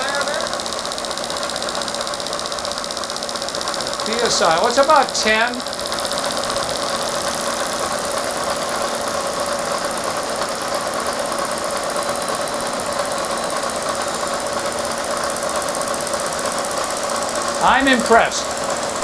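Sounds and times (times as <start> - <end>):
fast patter of spinning cutter: 0.0 - 19.0
milling machine cutting: 0.0 - 19.0.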